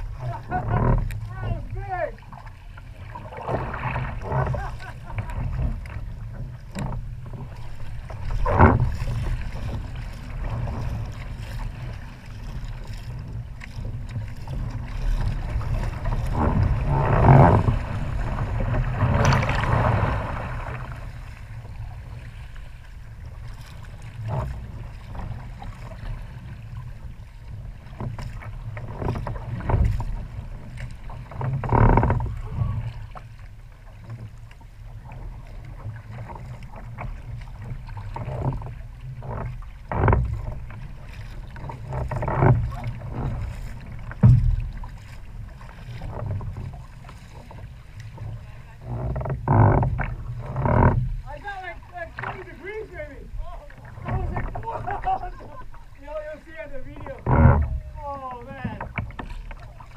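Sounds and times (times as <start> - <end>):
water splashing along hull: 0.0 - 59.9.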